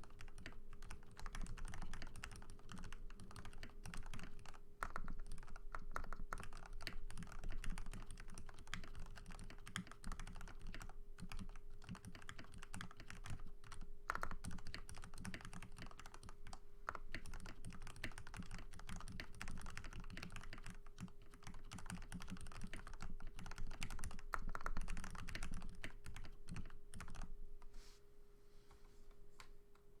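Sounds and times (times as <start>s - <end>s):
mechanical keyboard typing: 0.0s - 27.3s.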